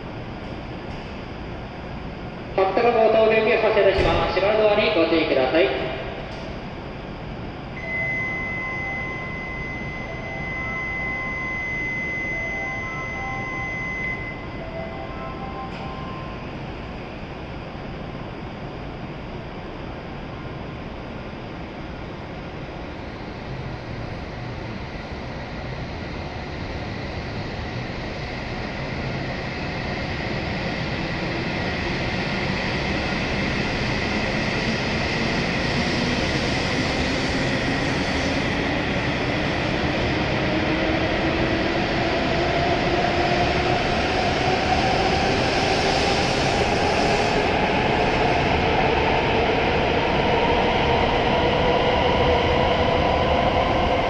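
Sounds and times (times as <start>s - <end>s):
train wheel and running noise: 0.0s - 54.0s.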